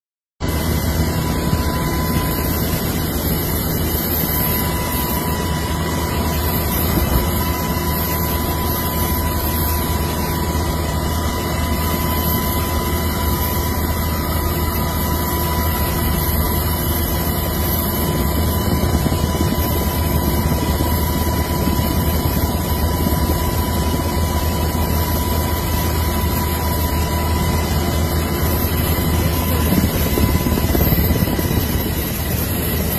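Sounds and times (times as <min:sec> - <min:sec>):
helicopter engine and rotor drone: 0:00.4 - 0:32.9.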